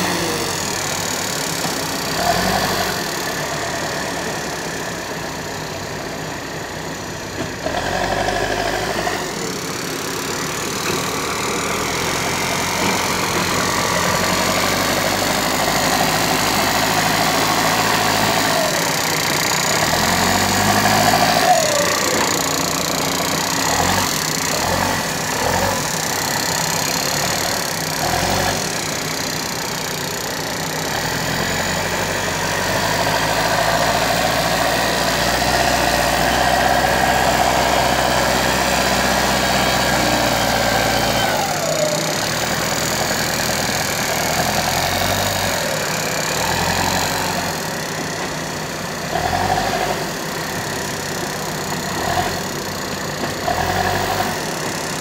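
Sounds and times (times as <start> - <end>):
diesel engine revving under load: 0.0 - 55.0.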